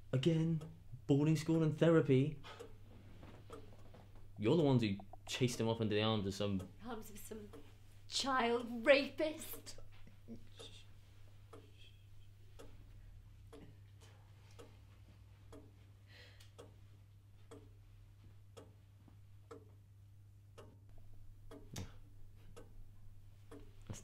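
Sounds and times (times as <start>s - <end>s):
low steady hum: 0.0s - 24.0s
clock ticking: 0.1s - 24.0s.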